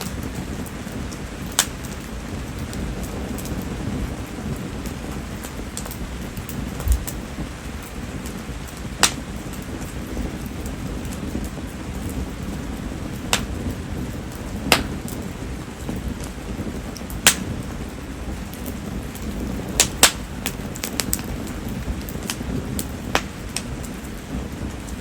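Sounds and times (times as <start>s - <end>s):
campfire crackling: 0.0s - 25.0s
steady rain: 0.0s - 25.0s.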